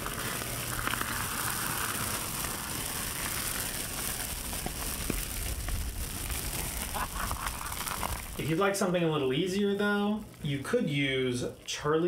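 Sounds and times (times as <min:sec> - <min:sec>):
fire pops: 0:00.0 - 0:11.8
fire crackling hiss: 0:00.0 - 0:12.0.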